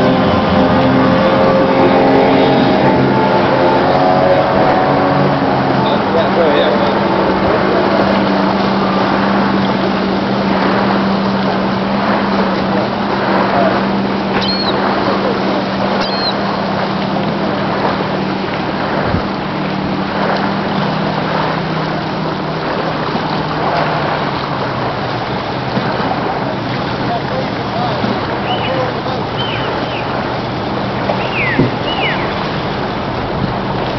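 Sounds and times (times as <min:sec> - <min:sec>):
powerboat engines droning: 0:00.0 - 0:33.9
wind and water rush: 0:00.0 - 0:33.9.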